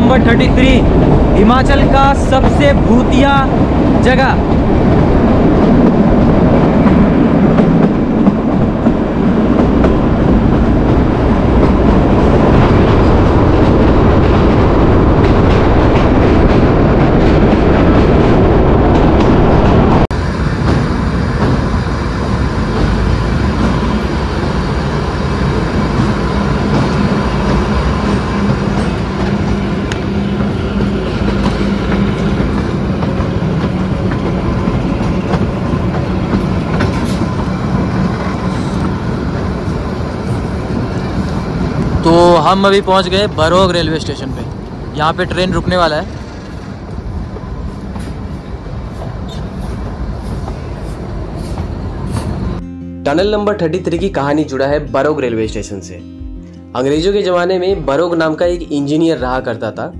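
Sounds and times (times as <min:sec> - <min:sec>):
train wheels clattering on rails: 0:00.0 - 0:52.6.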